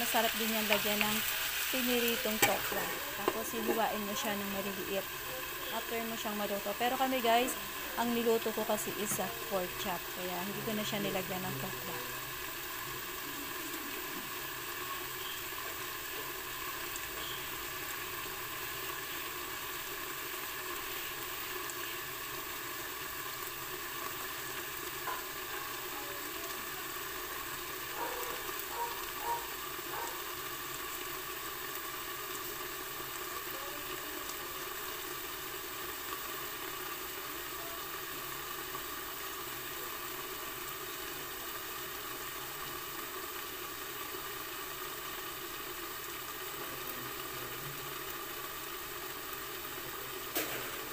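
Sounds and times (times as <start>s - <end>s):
food sizzling in a wok: 0.0s - 50.9s.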